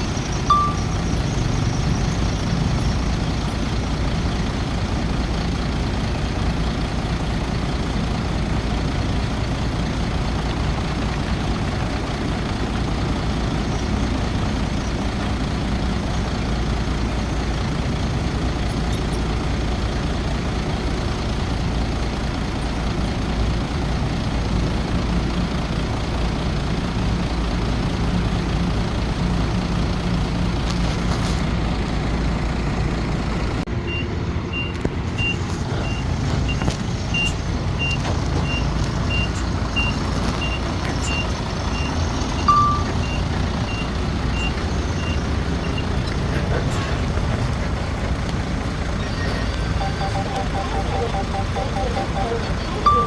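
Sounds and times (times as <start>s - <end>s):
heavy machinery engine drone: 0.0s - 53.0s.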